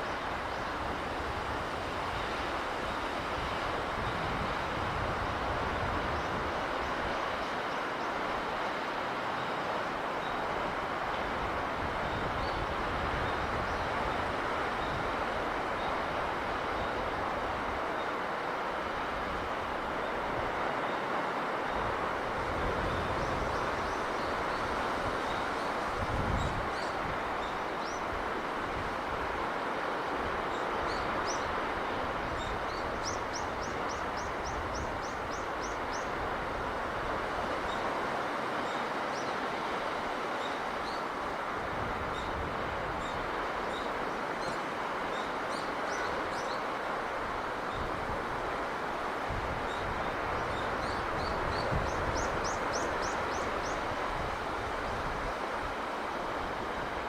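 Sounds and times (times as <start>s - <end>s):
low wind buffet: 0.0s - 57.0s
rushing sea breeze: 0.0s - 57.0s.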